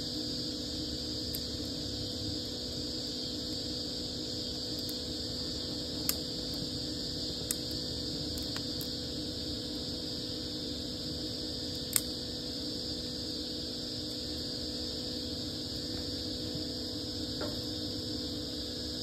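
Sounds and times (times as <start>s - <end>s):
steady hum: 0.0s - 19.0s
wood fire burning: 0.1s - 19.0s.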